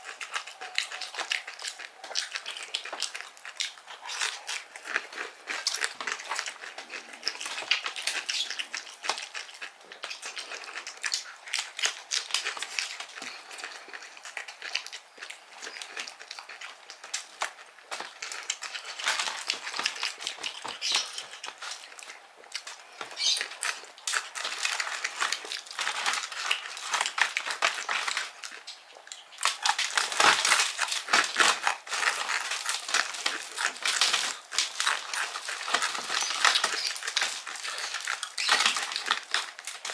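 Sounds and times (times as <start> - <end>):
chewing crispy fried chicken: 0.0 - 39.9.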